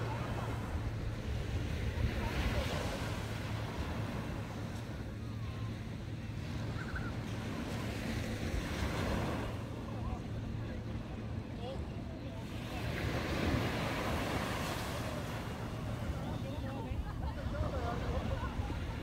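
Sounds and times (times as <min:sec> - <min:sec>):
small waves washing up shore: 0:00.0 - 0:19.0
wind rumbling on microphone: 0:00.0 - 0:19.0.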